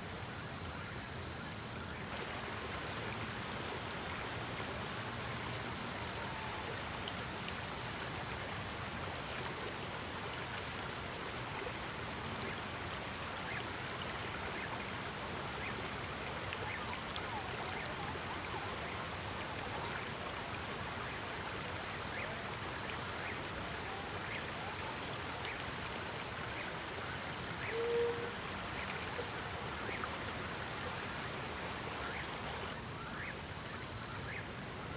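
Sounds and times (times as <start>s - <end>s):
creek water running: 2.0s - 33.3s.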